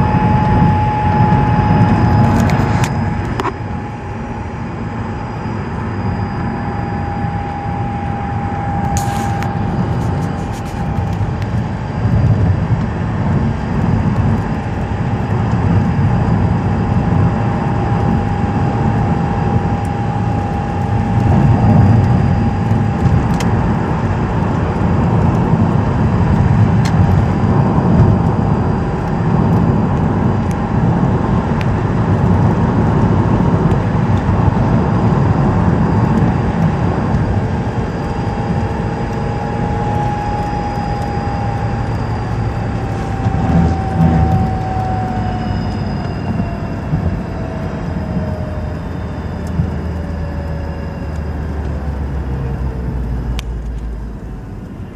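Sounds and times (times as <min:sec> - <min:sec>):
car engine rumble: 0:00.0 - 0:54.9
thin engine whine: 0:00.0 - 0:54.9.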